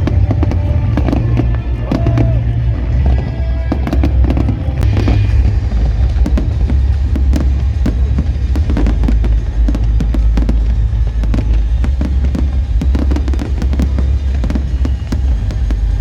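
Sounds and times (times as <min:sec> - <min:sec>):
deep rumble: 0:00.0 - 0:16.0
fireworks bangs and crackles: 0:00.0 - 0:16.0.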